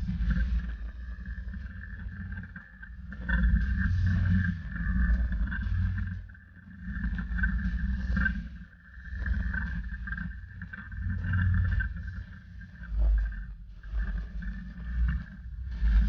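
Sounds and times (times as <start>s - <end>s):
engine running at crawling pace: 0.0s - 16.0s
steady high whine: 0.0s - 16.0s.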